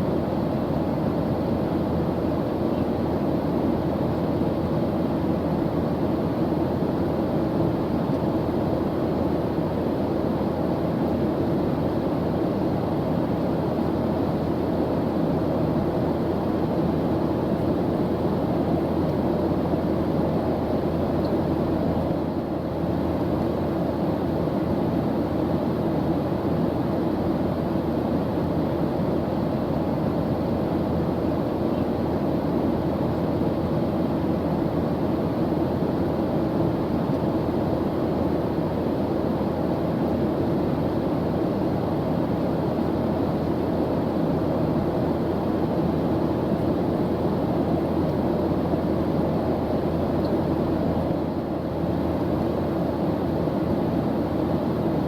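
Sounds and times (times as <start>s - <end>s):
airliner engine drone in cabin: 0.0s - 55.0s.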